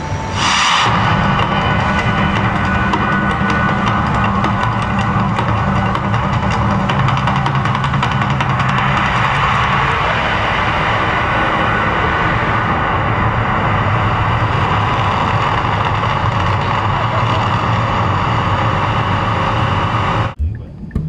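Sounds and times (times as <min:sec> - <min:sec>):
loud rumbling roar of gas flames: 0:00.0 - 0:20.4
droning soundtrack music: 0:00.0 - 0:21.0.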